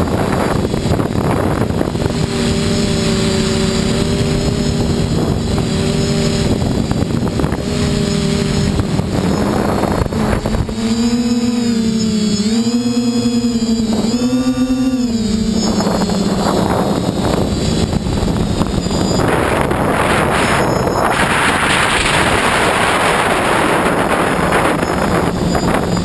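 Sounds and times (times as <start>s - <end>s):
low droning hum: 0.0s - 26.0s
quadcopter motor noise: 0.0s - 26.0s
wind rush: 0.0s - 26.0s.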